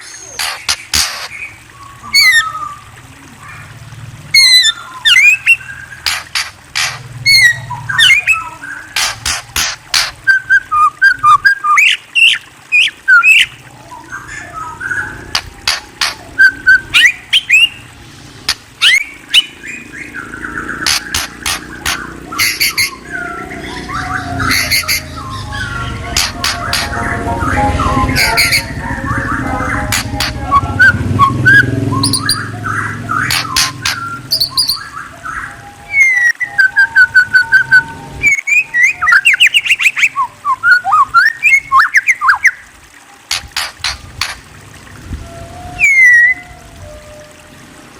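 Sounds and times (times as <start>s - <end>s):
songbird singing: 0.0s - 3.7s, 4.4s - 47.4s.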